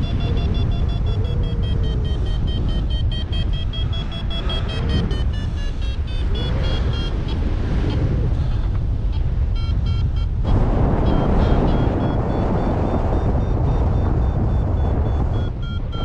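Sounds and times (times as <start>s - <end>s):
variometer beeping: 0.0s - 16.0s
wind rumble on microphone: 0.0s - 16.0s.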